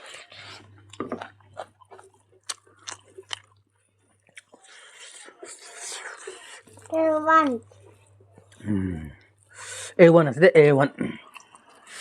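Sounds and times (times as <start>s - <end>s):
food crunching while chewed: 0.0s - 9.5s, 11.2s - 12.0s.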